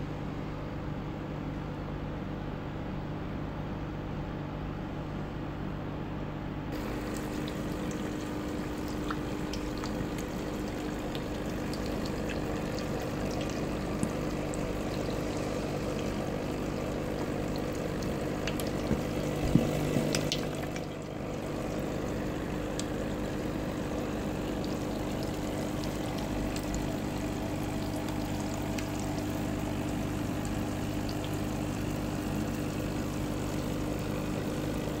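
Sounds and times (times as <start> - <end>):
aquarium pump humming: 6.6 - 35.0
water bubbling and trickling: 6.8 - 35.0.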